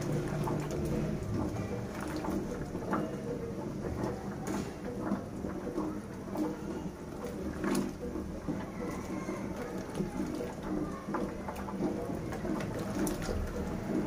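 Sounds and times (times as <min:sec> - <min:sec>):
gravy slopping: 0:00.0 - 0:14.0.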